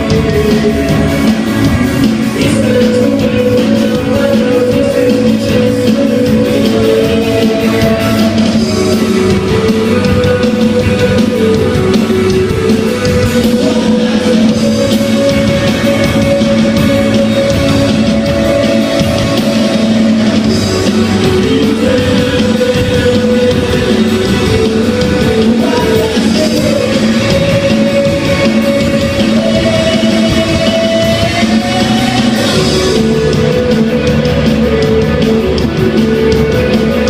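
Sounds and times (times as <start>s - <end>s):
drum kit playing: 0.0s - 37.0s
electric guitars: 0.0s - 37.0s.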